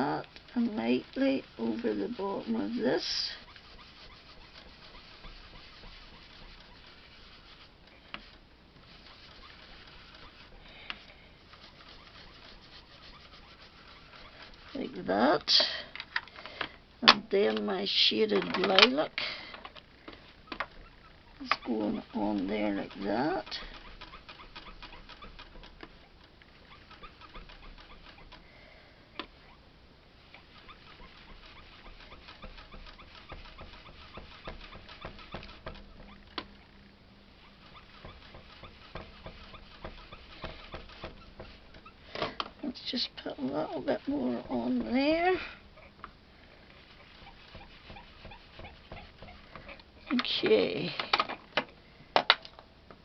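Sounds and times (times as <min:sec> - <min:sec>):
brush dabbing and swishing on card: 0:00.0 - 0:15.6, 0:20.1 - 0:28.4, 0:29.3 - 0:50.9.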